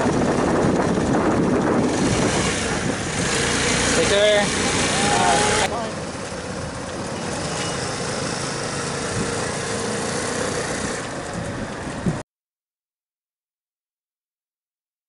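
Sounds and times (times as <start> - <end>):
scooter engine running: 0.0 - 12.2.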